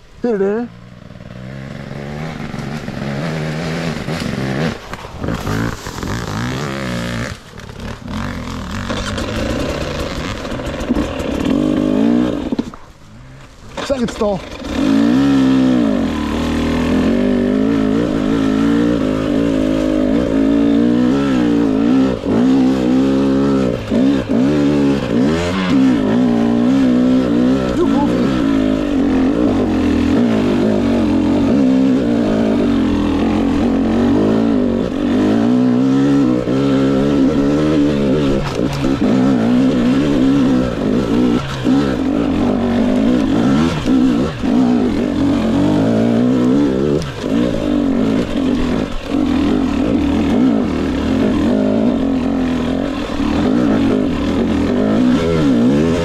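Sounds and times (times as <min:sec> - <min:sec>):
dirt bike engine revving: 0:00.2 - 0:56.0.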